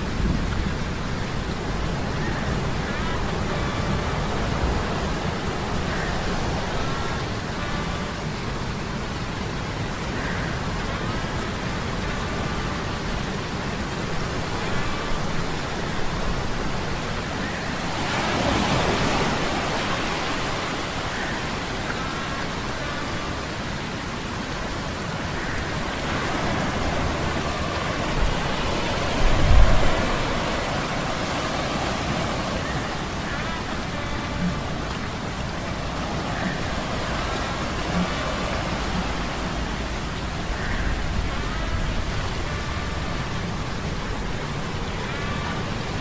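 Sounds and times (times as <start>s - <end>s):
rushing wind: 0.0s - 46.0s
steady rain: 0.0s - 46.0s.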